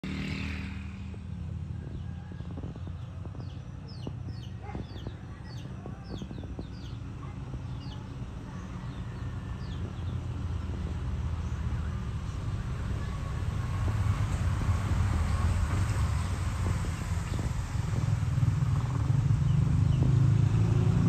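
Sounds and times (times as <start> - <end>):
birds chirping: 0.2 - 20.9.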